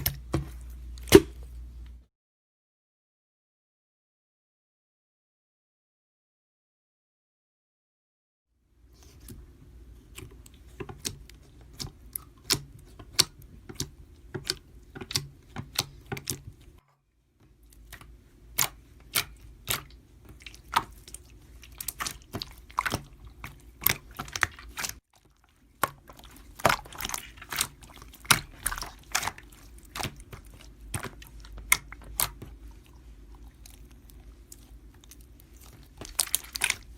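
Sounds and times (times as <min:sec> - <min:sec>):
low steady hum: 0:00.0 - 0:02.1, 0:08.7 - 0:36.9.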